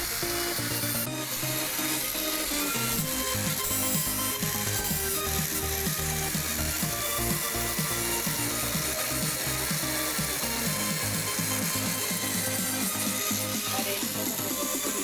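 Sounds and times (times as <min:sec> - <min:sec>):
melodic background music: 0:00.0 - 0:15.0.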